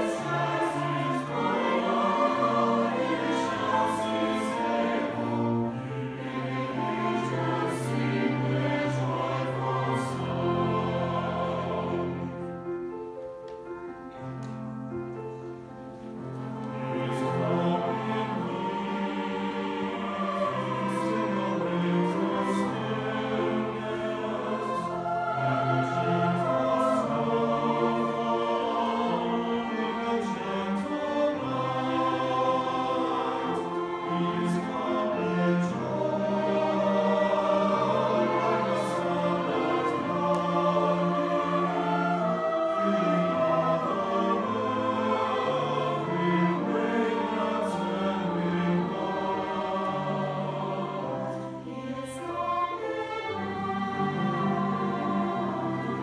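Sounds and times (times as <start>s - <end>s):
mixed choir singing: 0.0s - 12.9s, 16.0s - 56.0s
strings accompanying: 0.0s - 56.0s.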